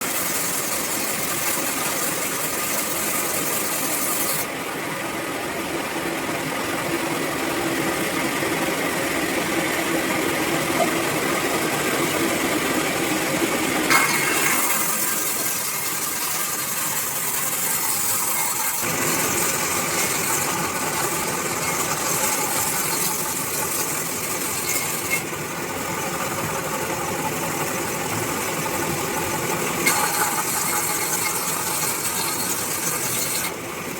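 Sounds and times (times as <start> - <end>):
band sawmill rattling: 0.0 - 4.5, 7.8 - 33.9.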